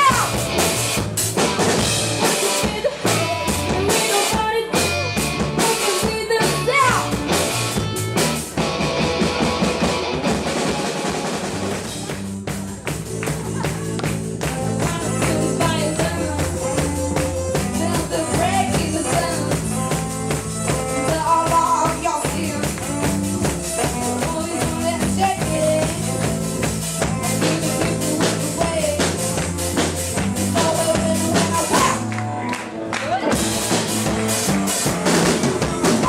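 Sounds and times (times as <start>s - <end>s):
drum kit beating fast: 0.0s - 32.2s, 33.1s - 36.0s
live band playing: 0.0s - 36.0s.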